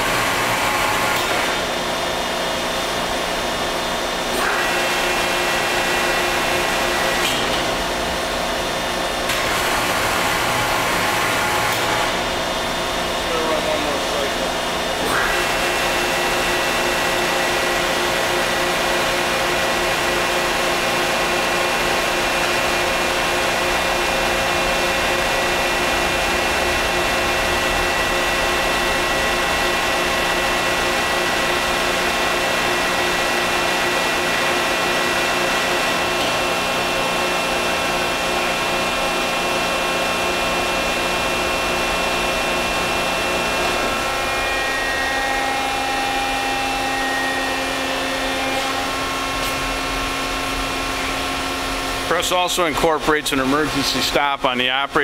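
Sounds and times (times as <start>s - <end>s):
hydraulic power unit drone: 0.0s - 55.0s.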